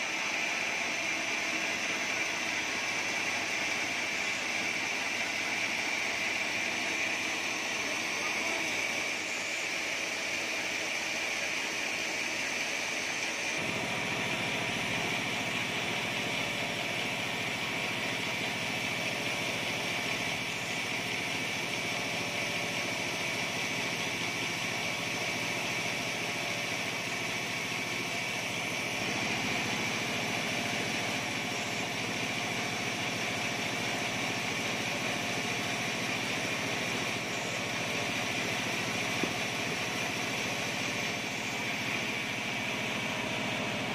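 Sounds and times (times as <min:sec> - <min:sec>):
sawmill machine whine: 0:00.0 - 0:43.9.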